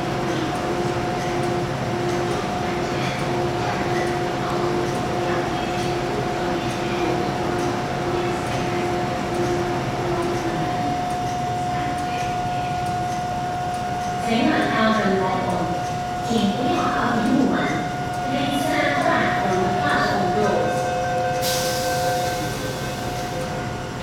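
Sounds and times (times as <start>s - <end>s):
train rumbling into platform: 0.0s - 24.0s.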